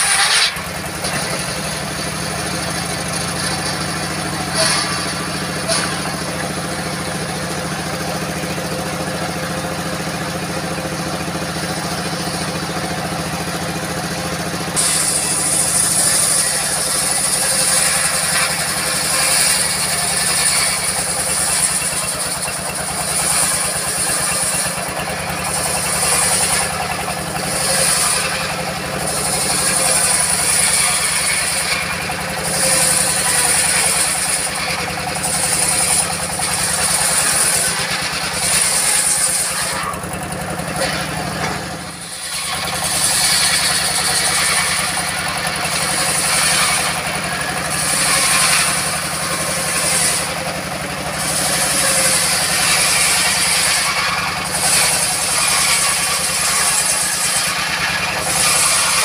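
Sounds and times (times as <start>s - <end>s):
diesel engine running: 0.0s - 59.0s
saw blade ripping log whine: 0.0s - 59.0s.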